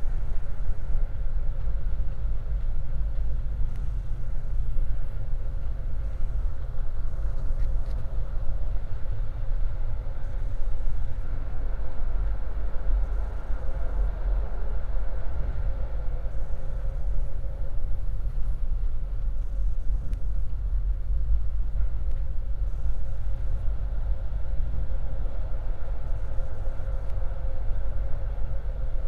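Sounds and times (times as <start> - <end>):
faint hum: 0.0 - 29.0
train rumble: 0.0 - 29.0.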